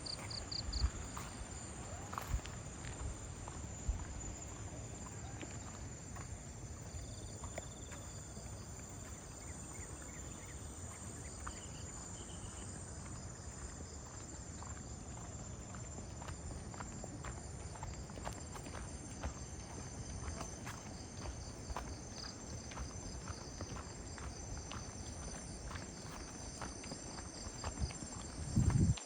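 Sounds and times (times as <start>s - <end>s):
footsteps on a path: 0.0s - 29.0s
insects trilling: 0.0s - 29.0s.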